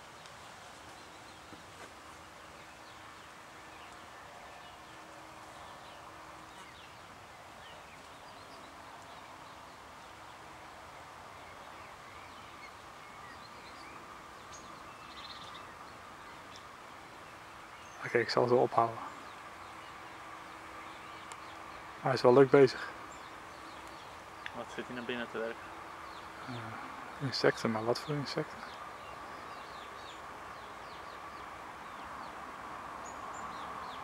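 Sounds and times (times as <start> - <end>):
outdoor background hiss: 0.0 - 34.0
small birds chirping: 0.0 - 34.0.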